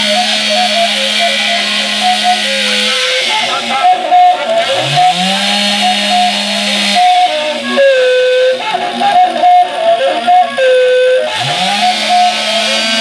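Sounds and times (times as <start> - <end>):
chainsaw revving and cutting log: 0.0 - 9.6, 10.6 - 13.0
wavering whistling tones: 0.0 - 13.0.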